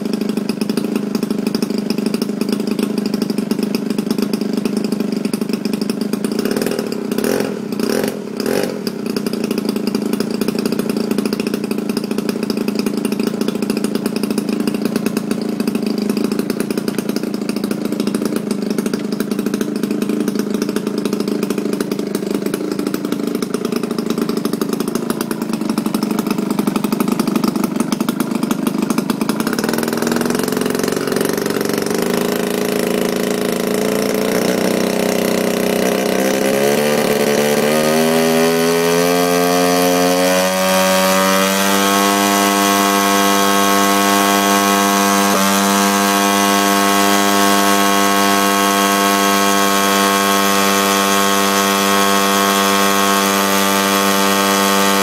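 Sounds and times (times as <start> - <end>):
model plane engine running: 0.0 - 55.0.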